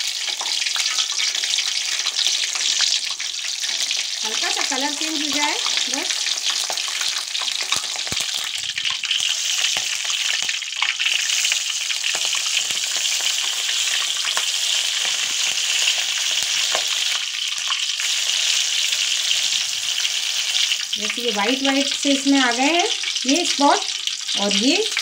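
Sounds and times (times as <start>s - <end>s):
chillies sizzling in hot oil: 0.0s - 25.0s.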